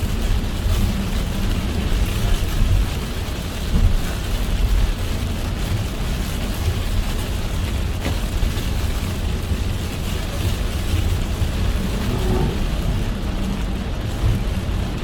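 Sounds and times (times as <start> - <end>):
car rumbling on road: 0.0 - 15.0
rain hissing: 0.0 - 15.0.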